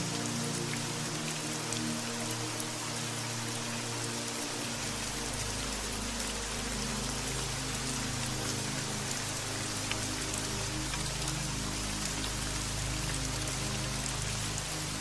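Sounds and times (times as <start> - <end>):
soft low sustained music: 0.0 - 15.0
steady rain falling: 0.0 - 15.0.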